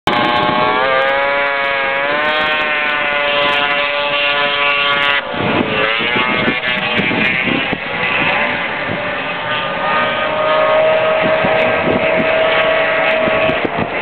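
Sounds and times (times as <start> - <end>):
rough wavering engine: 0.1 - 14.0
snowmobile engines wailing: 0.1 - 14.0.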